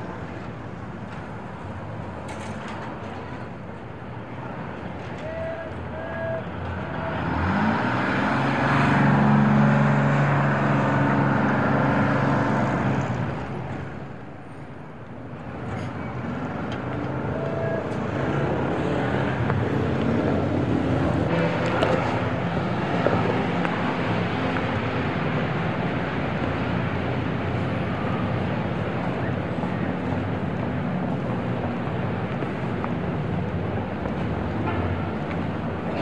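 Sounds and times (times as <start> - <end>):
bus engines running: 0.0 - 36.0
steady background noise: 0.0 - 36.0.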